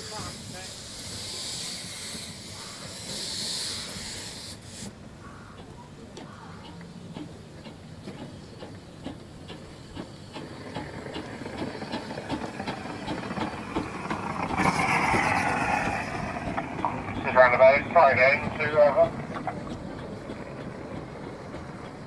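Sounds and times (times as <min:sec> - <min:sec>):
steam hissing: 0:00.0 - 0:05.2, 0:07.1 - 0:22.0
steam locomotive beats: 0:00.0 - 0:22.0.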